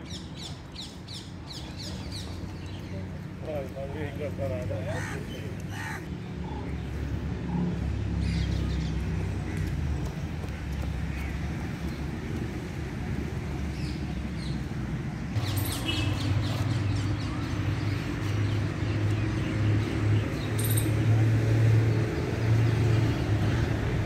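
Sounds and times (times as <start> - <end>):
birds chirping: 0.0 - 24.0
low rumble of road traffic: 0.0 - 24.0.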